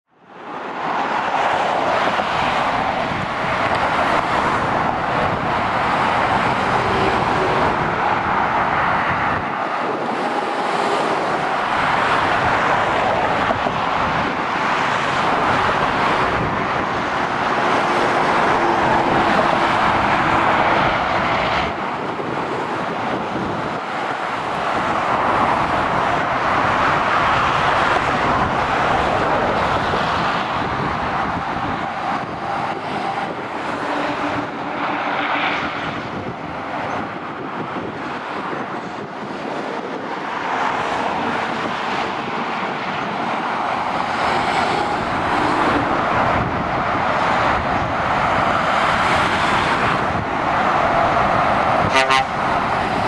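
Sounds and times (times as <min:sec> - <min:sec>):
motorway traffic: 0:00.0 - 0:53.0.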